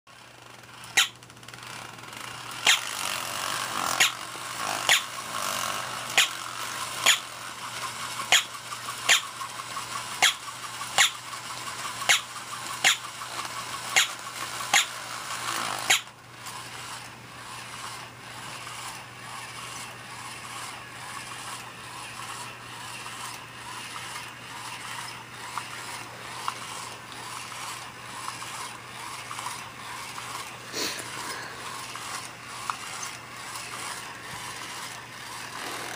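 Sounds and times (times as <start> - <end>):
toy gear motor whirring: 0.1 - 35.9.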